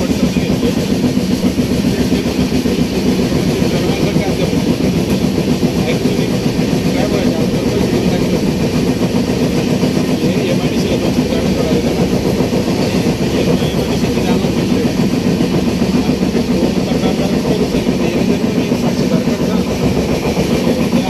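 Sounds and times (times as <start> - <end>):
train running inside coach: 0.0 - 21.0.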